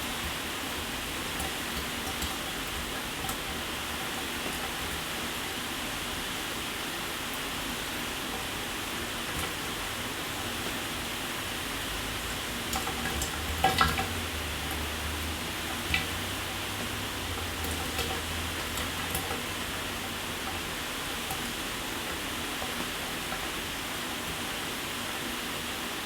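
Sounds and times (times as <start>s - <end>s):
water splashes and taps: 0.0s - 5.2s, 8.3s - 24.8s.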